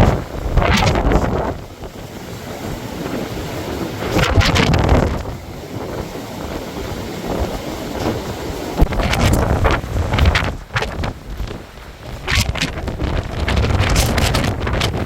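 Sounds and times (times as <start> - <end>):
blizzard wind buffeting microphone: 0.0 - 15.0.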